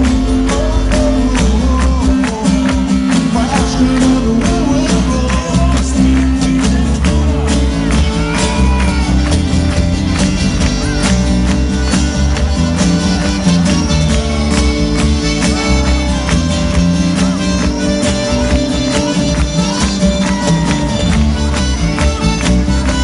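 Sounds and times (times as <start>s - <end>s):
live band playing: 0.0s - 23.0s
strummed acoustic guitars: 0.0s - 23.0s.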